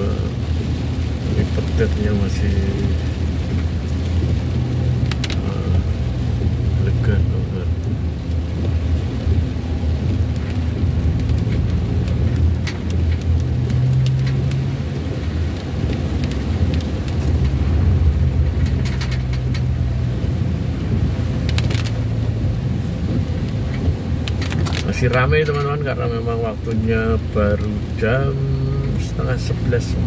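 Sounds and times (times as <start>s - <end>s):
engine and tyre drone: 0.0s - 30.0s
rain on windscreen: 0.0s - 30.0s.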